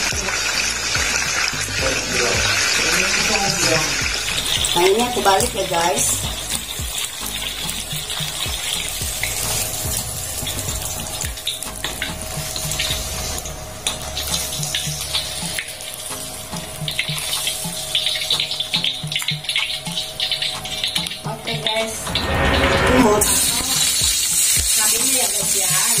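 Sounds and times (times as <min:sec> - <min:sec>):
fish deep-frying in hot oil: 0:00.0 - 0:22.0, 0:23.4 - 0:26.0.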